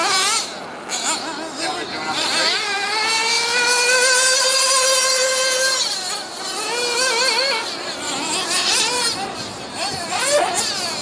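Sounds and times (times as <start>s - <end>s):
model engine high-pitched whine: 0.0s - 11.0s.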